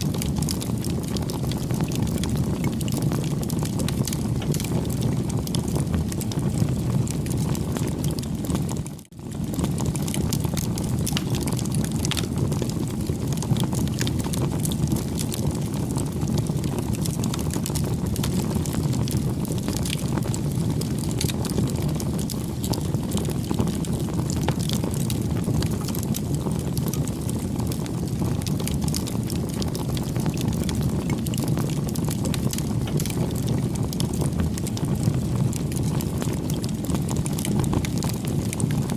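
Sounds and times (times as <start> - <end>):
campfire flames rumbling: 0.0 - 38.9
fire crackling and popping: 0.0 - 38.9.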